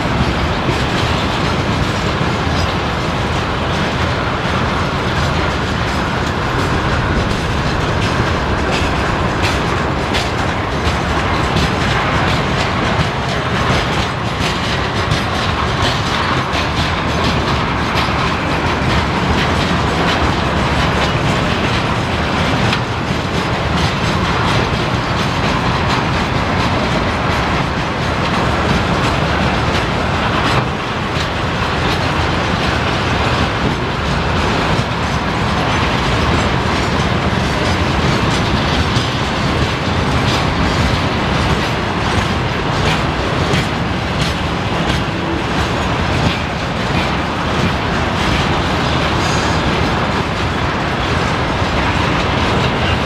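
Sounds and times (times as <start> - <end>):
train wheels rumbling on rail: 0.0 - 53.0
wheels clacking over rail joints: 0.0 - 53.0.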